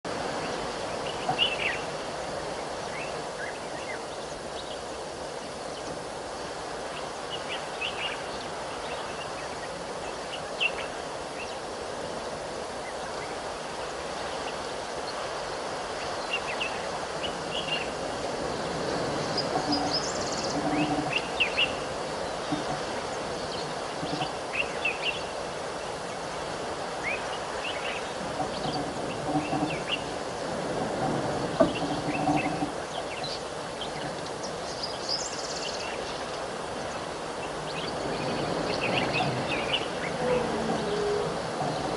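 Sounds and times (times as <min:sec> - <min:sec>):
steady background hiss: 0:00.1 - 0:41.9.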